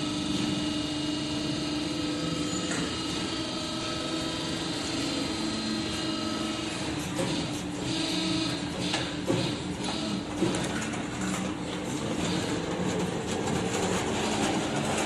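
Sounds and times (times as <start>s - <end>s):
industrial press humming: 0.0s - 15.0s.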